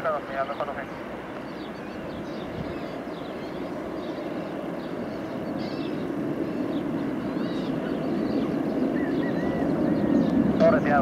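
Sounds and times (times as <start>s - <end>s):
birds chirping: 0.0s - 11.0s
jet engines rumbling: 0.0s - 11.0s.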